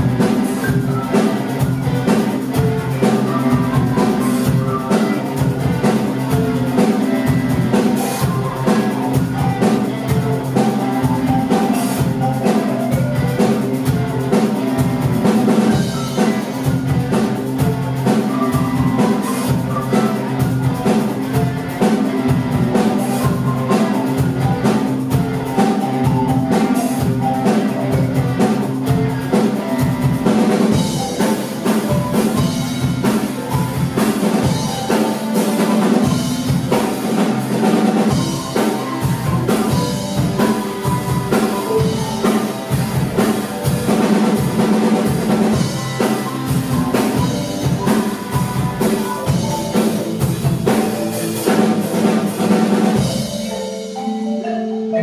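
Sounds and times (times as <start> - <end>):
electric guitar: 0.0 - 54.0
drum kit steady beat: 0.0 - 55.0
school mallet ensemble playing: 0.0 - 55.0.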